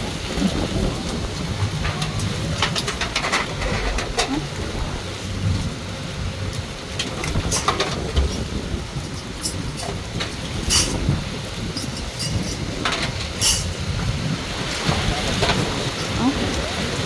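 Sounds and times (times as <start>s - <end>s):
pouring rain hissing: 0.0s - 17.0s
wind rumbling on microphone: 0.0s - 17.0s.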